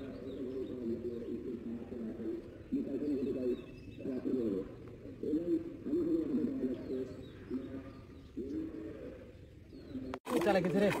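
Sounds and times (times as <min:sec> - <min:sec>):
doves cooing: 0:00.0 - 0:11.0
small birds chirping: 0:00.0 - 0:11.0.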